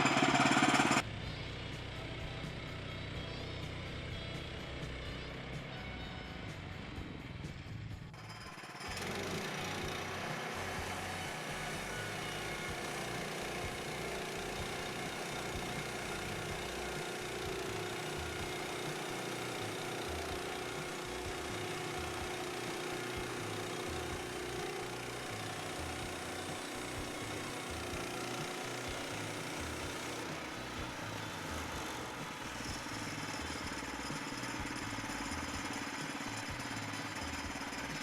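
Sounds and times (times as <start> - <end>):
band saw blade cutting lumber: 0.0 - 1.0, 8.2 - 38.0
gas engine running: 0.0 - 38.0.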